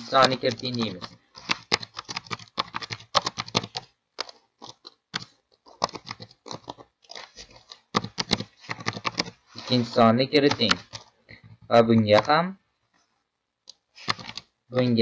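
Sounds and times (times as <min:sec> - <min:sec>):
computer keyboard typing: 0:00.0 - 0:11.1, 0:12.0 - 0:12.4, 0:14.0 - 0:15.0.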